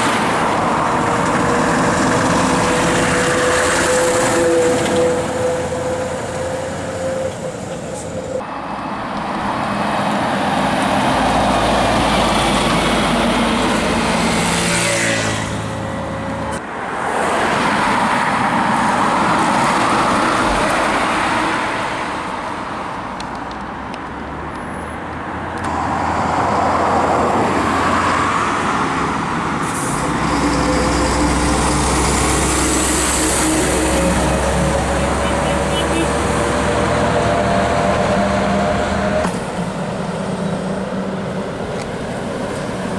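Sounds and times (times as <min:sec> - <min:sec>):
heavy trucks driving past: 0:00.0 - 0:42.9.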